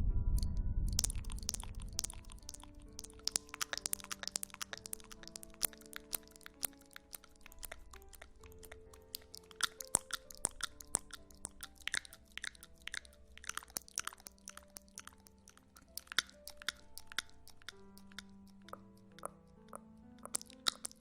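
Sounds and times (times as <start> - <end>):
soft held music tones: 0.0 - 21.0
crisp crackling clicks and snaps: 0.4 - 21.0.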